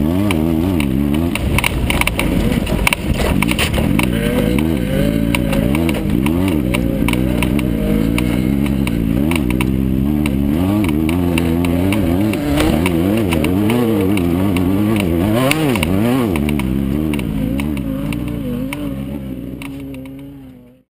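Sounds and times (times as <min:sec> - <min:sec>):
race car engine running hard: 0:00.0 - 0:20.9
sharp rattles and knocks: 0:00.2 - 0:20.5.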